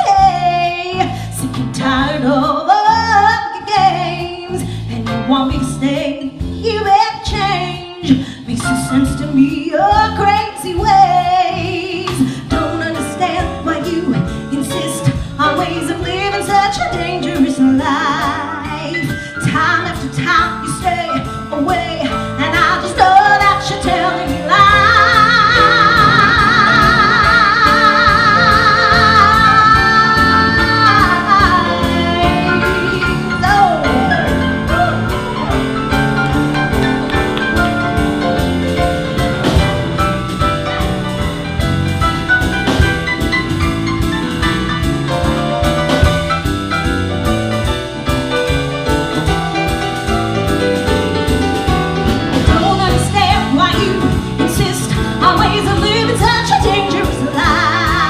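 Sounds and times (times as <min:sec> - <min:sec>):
live band playing a song: 0:00.0 - 0:58.0.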